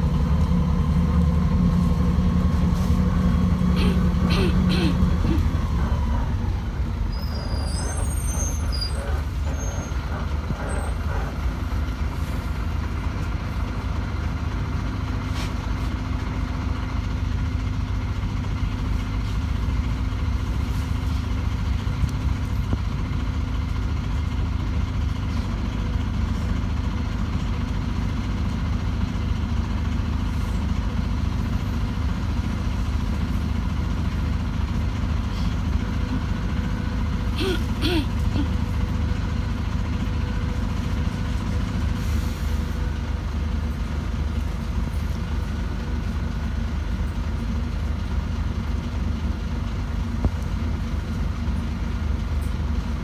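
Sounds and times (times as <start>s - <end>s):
bus engine droning: 0.0s - 53.0s.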